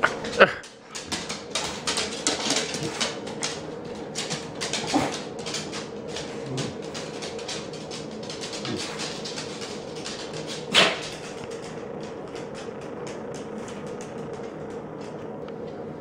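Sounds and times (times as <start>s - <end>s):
dog claws clicking on wood floor: 0.0s - 15.2s.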